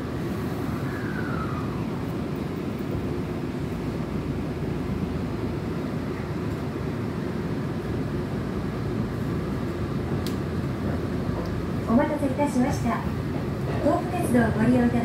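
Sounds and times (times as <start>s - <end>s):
subway car hum and rumble: 0.0s - 15.0s.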